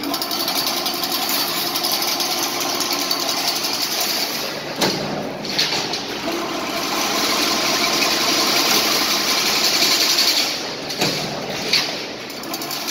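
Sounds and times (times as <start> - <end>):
fencing machine running: 0.0 - 12.9.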